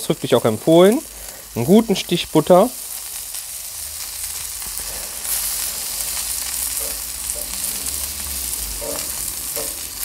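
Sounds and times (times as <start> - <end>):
butter sizzling on griddle: 0.0 - 10.0.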